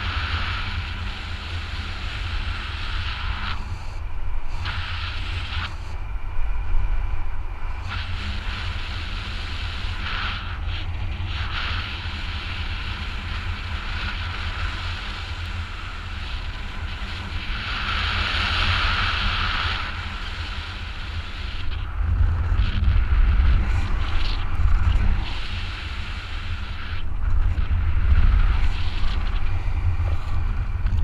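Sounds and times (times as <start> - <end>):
wind buffeting a microphone: 0.0 - 31.0.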